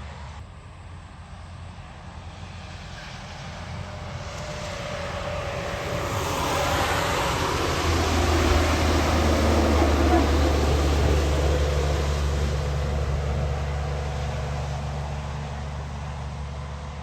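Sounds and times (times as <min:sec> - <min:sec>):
heavy truck approaching: 0:03.2 - 0:17.0.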